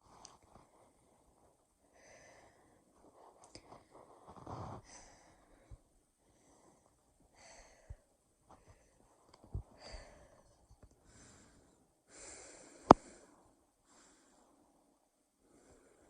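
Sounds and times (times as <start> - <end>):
noisy human breathing: 0.0 - 16.0.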